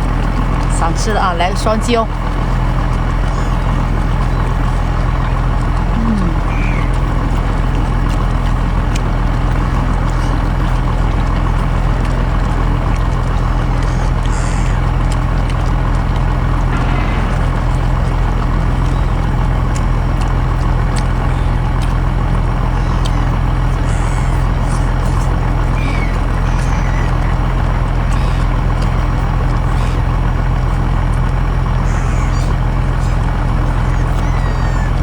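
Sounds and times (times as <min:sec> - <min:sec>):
low mechanical drone: 0:00.0 - 0:35.0.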